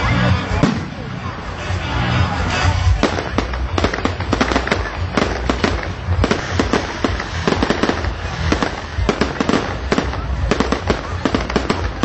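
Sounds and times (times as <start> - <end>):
fireworks cracks and bangs: 0.5 - 1.2, 2.7 - 12.0.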